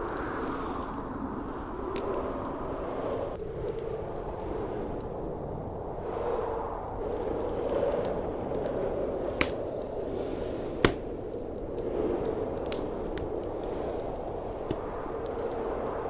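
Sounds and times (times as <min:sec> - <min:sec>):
blizzard wind roar: 0:00.0 - 0:16.0
wood fire crackling: 0:00.0 - 0:16.0.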